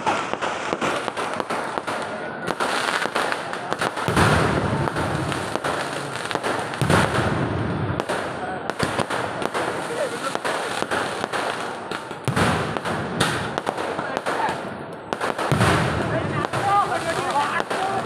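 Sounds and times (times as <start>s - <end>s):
firecracker bangs and crackling: 0.0s - 18.0s.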